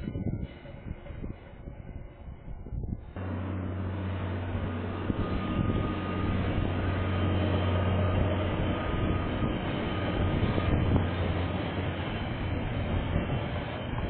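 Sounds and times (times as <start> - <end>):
freight train rumbling past: 0.0 - 14.0
low drone: 0.0 - 14.0.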